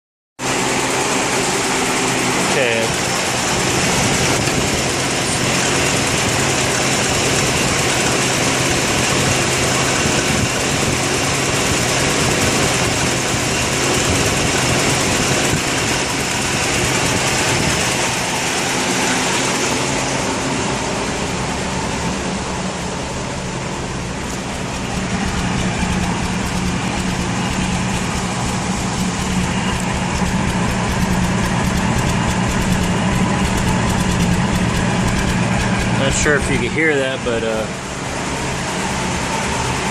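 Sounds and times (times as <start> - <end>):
car engine idling with misfire: 0.4 - 39.9.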